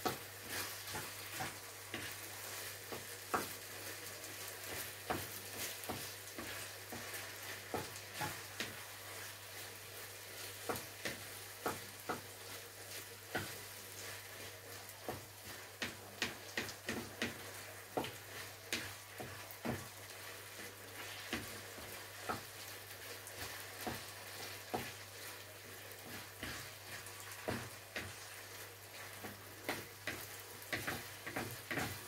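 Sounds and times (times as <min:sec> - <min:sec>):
food sizzling in a pan: 0:00.0 - 0:32.0
wooden spatula scraping a pan: 0:00.0 - 0:32.0.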